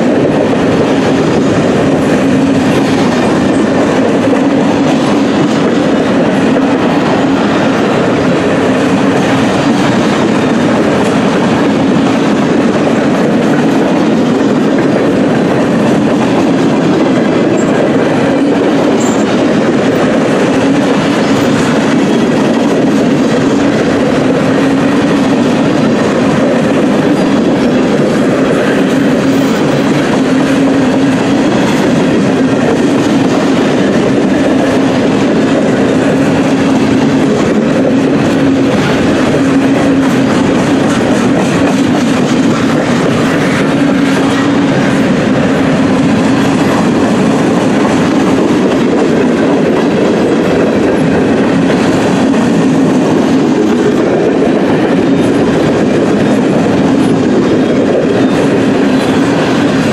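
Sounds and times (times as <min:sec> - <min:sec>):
train wheels clattering over rail joints: 0:00.0 - 0:59.9.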